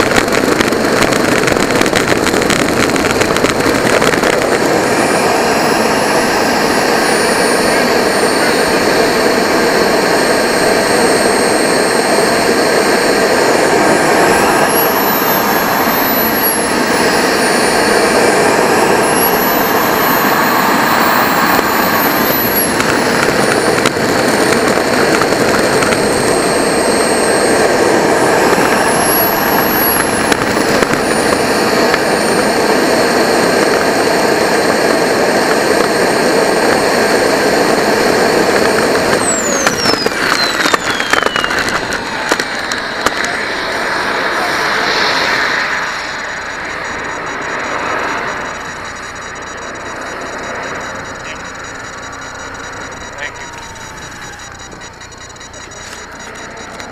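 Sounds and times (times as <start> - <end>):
model jet turbine whine: 0.0 - 56.9.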